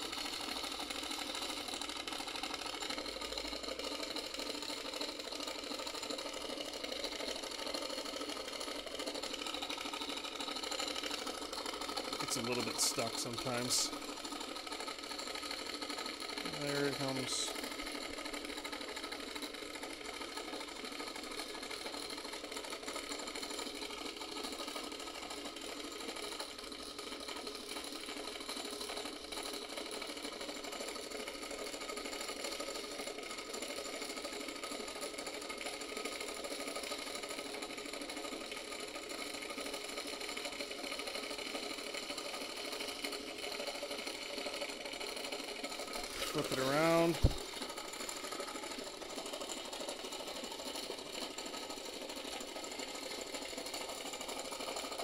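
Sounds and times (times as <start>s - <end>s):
electric motor whirring and clattering: 0.0s - 55.0s.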